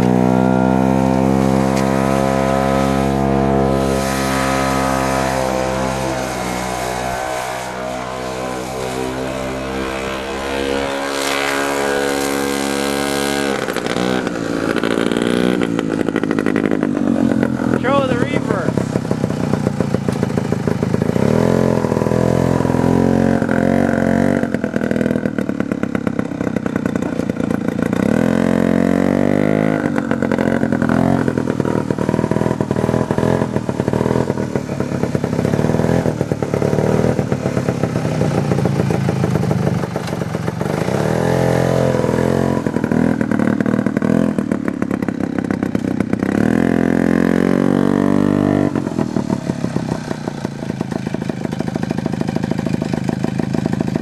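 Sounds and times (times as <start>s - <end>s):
snowmobile engine revving: 0.0s - 52.4s.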